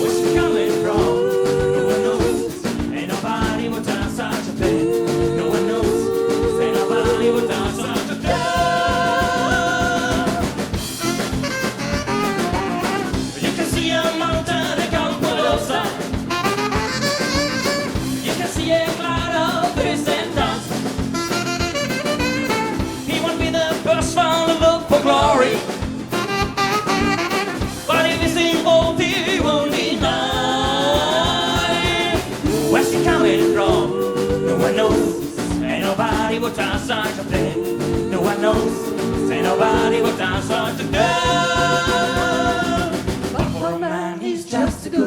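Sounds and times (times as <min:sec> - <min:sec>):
drum kit beat: 0:00.0 - 0:43.8
live band playing upbeat instrumental: 0:00.0 - 0:43.8.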